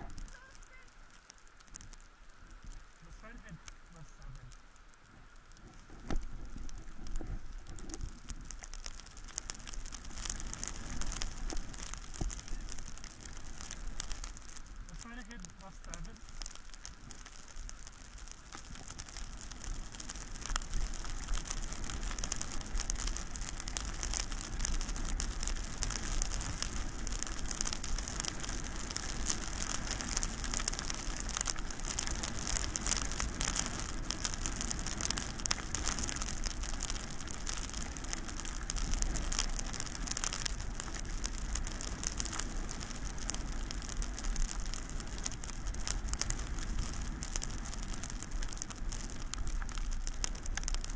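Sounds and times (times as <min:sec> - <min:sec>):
wind rumbling on microphone: 0:00.0 - 0:00.6, 0:01.6 - 0:50.9
skis scraping over snow: 0:05.6 - 0:50.9.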